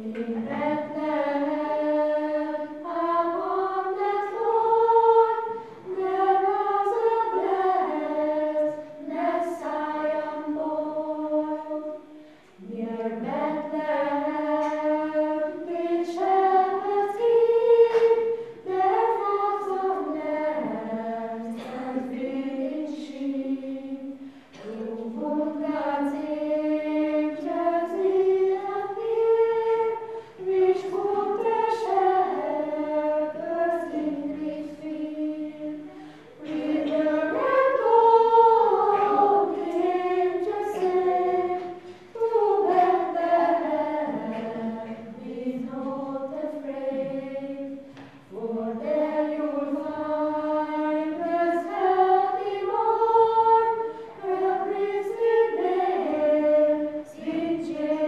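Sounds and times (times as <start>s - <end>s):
children's choir singing a cappella: 0.0s - 58.0s.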